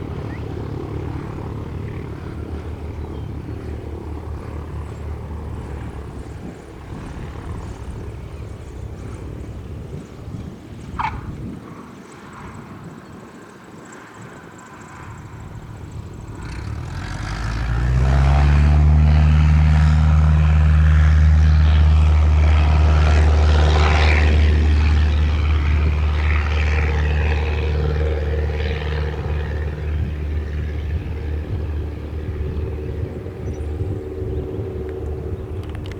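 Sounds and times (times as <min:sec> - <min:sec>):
propeller plane engine droning: 0:00.0 - 0:35.9.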